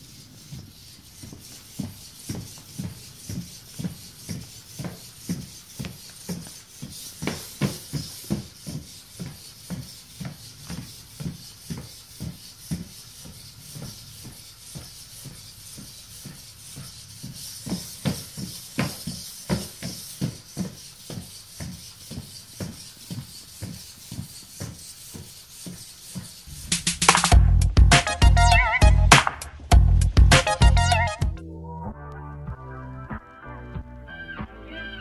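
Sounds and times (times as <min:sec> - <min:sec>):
robot feet tapping on wood floor: 0:00.2 - 0:31.4.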